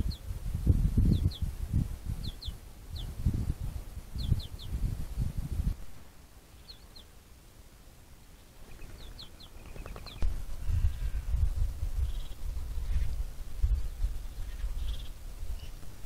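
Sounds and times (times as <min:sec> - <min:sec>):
small bird chirping: 0:00.0 - 0:05.0, 0:06.5 - 0:07.2, 0:08.3 - 0:15.8.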